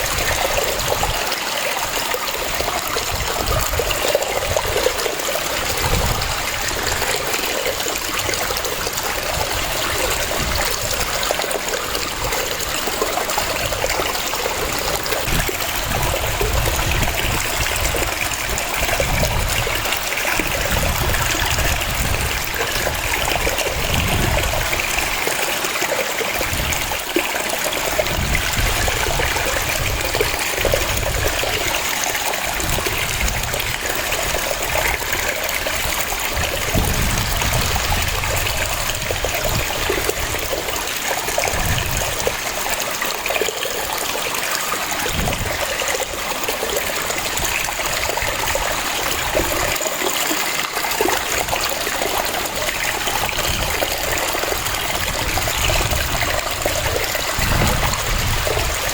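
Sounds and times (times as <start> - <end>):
waterfall splashing: 0.0 - 58.9.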